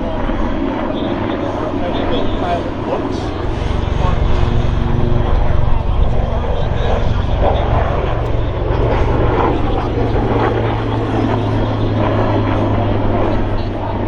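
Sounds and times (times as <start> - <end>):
aircraft engines droning: 0.0 - 14.0.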